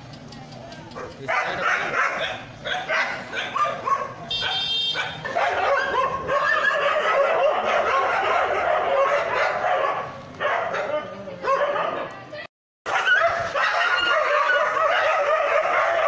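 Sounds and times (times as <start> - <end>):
dogs barking and yelping: 0.8 - 12.1, 12.9 - 16.0.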